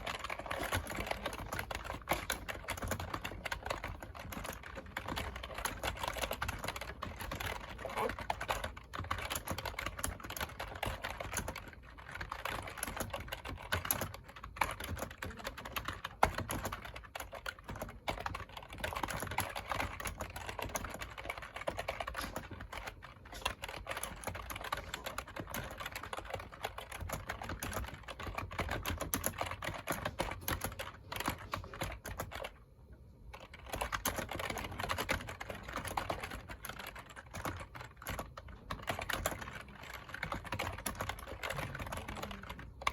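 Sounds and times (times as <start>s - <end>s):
typing on a keyboard: 0.0s - 42.9s.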